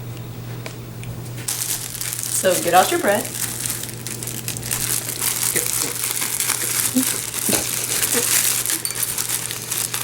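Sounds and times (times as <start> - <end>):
plastic bag crinkling: 1.4 - 10.0.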